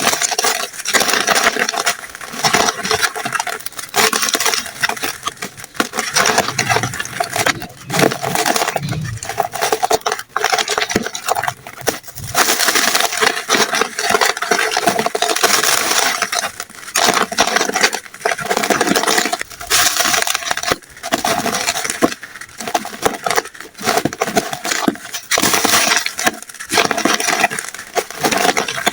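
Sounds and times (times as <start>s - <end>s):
chalk crumbling by hand: 0.0s - 28.9s.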